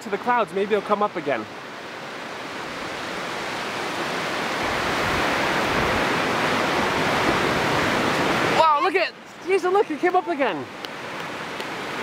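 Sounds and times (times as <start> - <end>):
ocean surf breaking on beach: 0.0 - 12.0.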